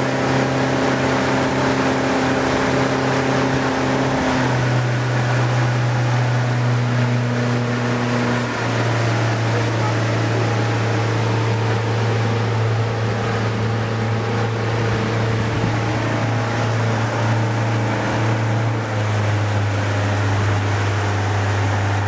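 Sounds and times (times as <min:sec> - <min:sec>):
boat motor running: 0:00.0 - 0:22.0
rushing water: 0:00.0 - 0:22.0
wind: 0:00.0 - 0:22.0.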